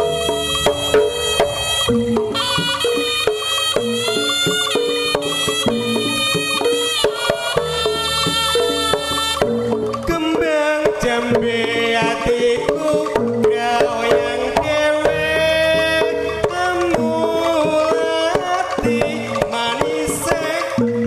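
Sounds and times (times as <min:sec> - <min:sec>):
hand drumming: 0:00.0 - 0:21.0
sliding pitched melody: 0:00.0 - 0:21.0.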